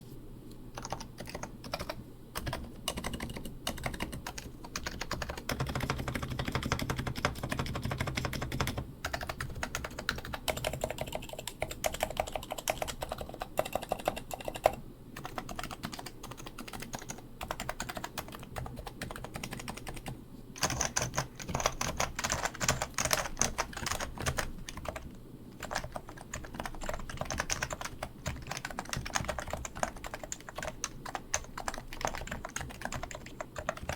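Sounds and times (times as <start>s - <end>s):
fast keyboard typing: 0.8s - 33.9s.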